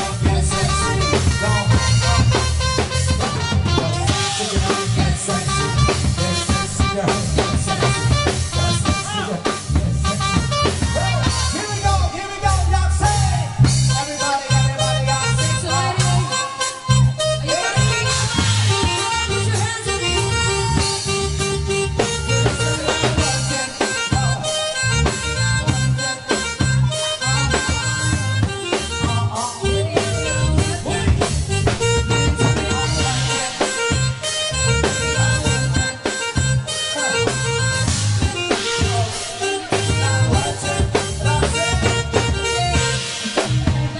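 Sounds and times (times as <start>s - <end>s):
bass: 0.0s - 43.9s
drum kit steady beat: 0.0s - 43.9s
electronic keyboard: 0.0s - 43.9s.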